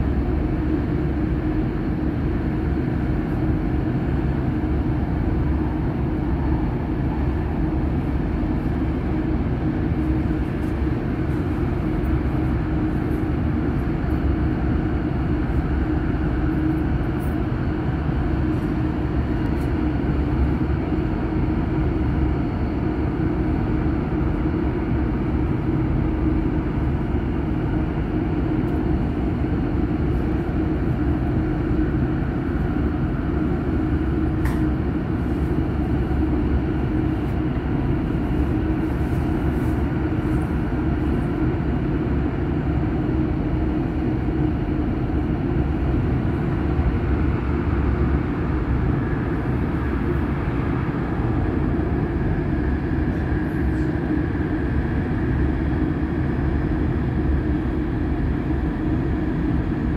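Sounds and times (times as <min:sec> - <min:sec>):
steady hum: 0:00.0 - 0:59.9
train running rumble: 0:00.0 - 0:59.9.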